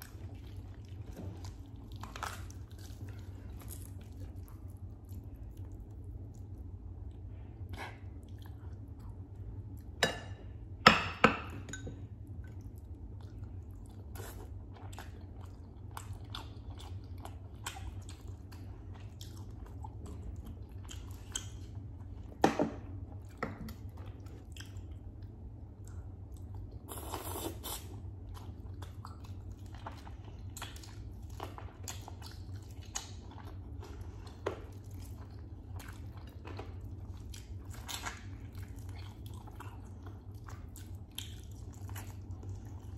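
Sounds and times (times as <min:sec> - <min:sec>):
chewing with wet mouth smacks: 0:00.0 - 0:10.0, 0:12.2 - 0:42.9
steady low hum: 0:00.0 - 0:42.9.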